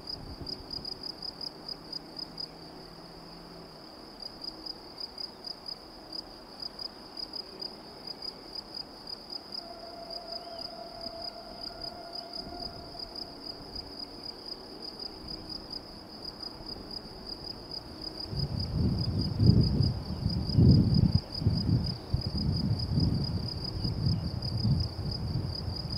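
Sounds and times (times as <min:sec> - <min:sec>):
insects chirping trill: 0:00.0 - 0:25.9.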